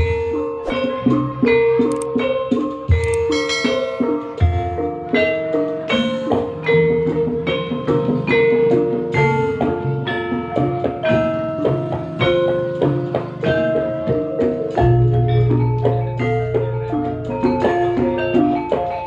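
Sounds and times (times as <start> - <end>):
struck pitched notes melody: 0.0 - 8.2, 8.9 - 19.0
percussion: 0.0 - 19.0.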